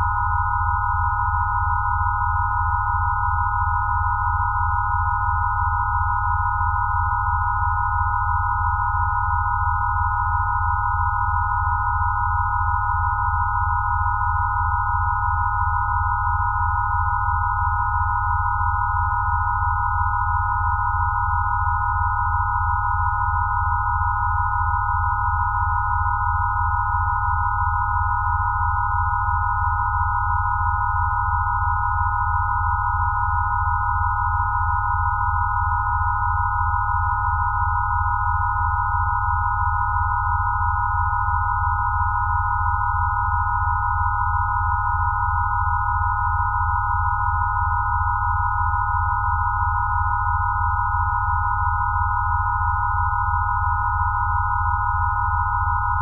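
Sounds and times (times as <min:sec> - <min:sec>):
pure sine tones: 0:00.0 - 0:56.0.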